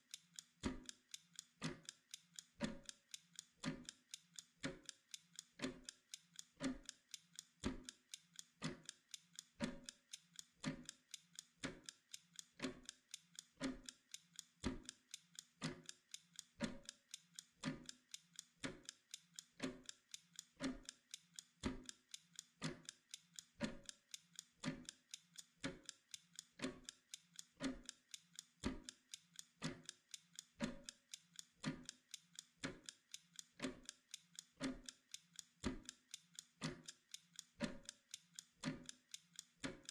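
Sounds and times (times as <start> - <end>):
mechanical clock ticking: 0.0 - 39.9.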